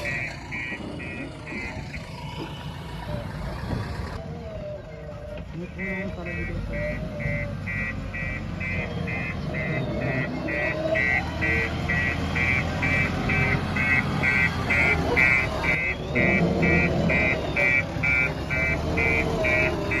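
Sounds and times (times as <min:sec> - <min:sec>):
reversing alarm beeping: 0:00.0 - 0:03.5, 0:05.8 - 0:20.0
diesel engine rumbling: 0:00.0 - 0:20.0.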